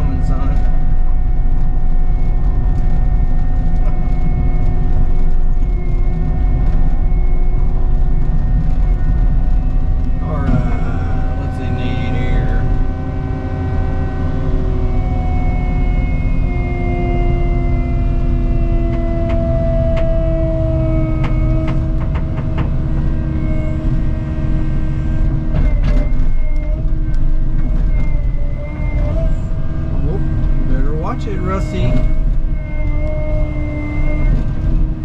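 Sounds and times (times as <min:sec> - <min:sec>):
excavator diesel engine: 0:00.0 - 0:35.0
hydraulic whine: 0:00.0 - 0:35.0.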